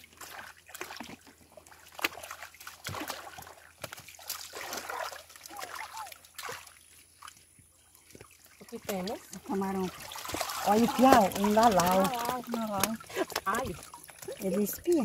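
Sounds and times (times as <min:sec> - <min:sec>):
muddy water splashing and trickling: 0:00.0 - 0:15.0
water draining through woven sieve: 0:00.0 - 0:15.0.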